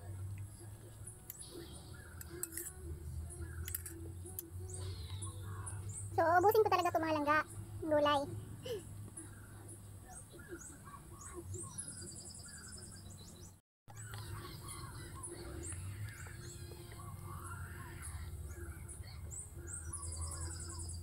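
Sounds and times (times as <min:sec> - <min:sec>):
birds chirping and calling: 0:00.0 - 0:21.0.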